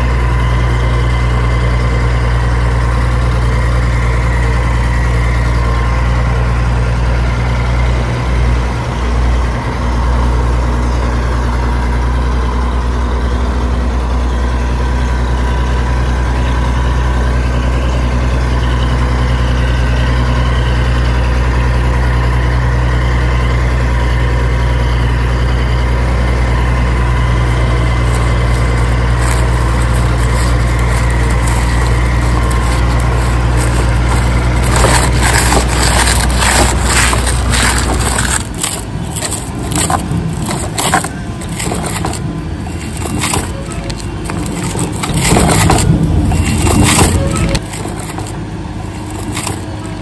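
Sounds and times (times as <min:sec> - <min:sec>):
diesel tractor engine idling: 0:00.0 - 0:50.0.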